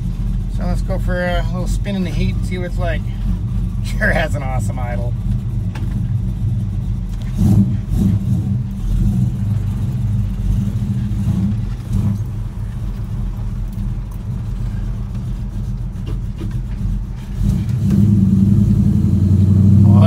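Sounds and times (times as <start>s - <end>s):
truck engine exhaust revving: 0.0s - 20.0s.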